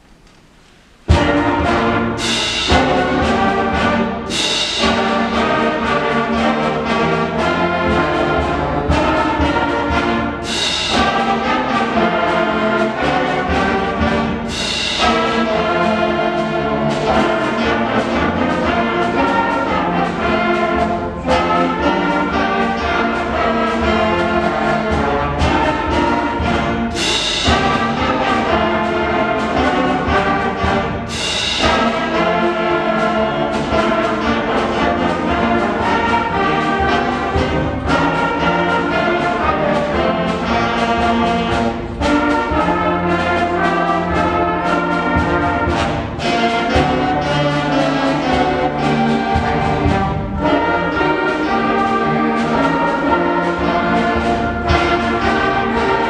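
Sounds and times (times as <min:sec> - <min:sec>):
concert band playing: 0:00.0 - 0:56.0.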